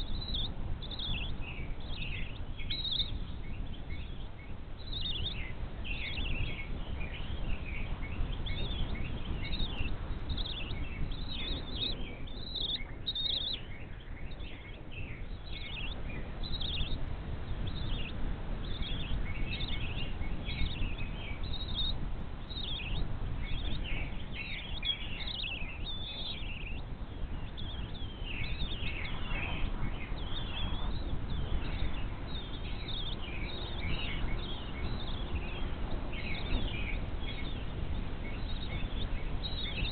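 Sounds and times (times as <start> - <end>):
birds chirping: 0.0 - 39.9
low background noise: 0.0 - 39.9.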